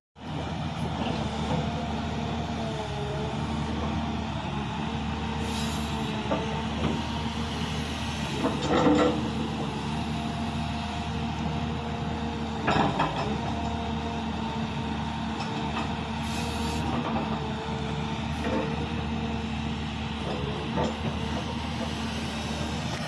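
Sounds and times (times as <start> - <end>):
excavator diesel engine running: 0.2 - 23.0
hydraulics working: 0.2 - 23.0.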